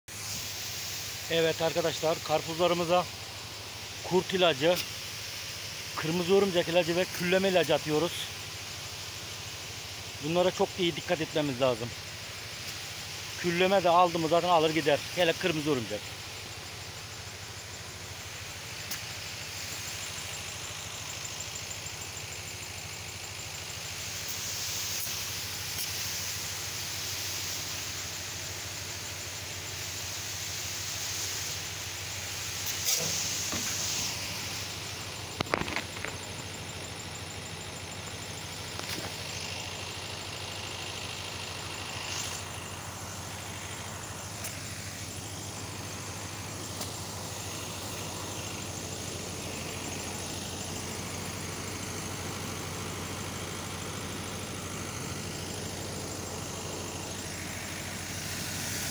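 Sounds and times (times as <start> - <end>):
pump motor humming: 0.1 - 58.9
spray gun hissing: 0.1 - 58.9.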